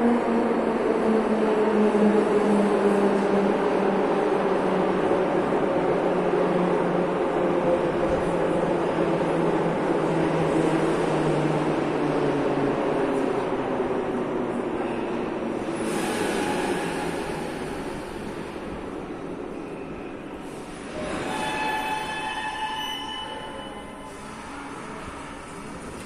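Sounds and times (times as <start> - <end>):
metro train rumble and motor whine: 0.0 - 26.0.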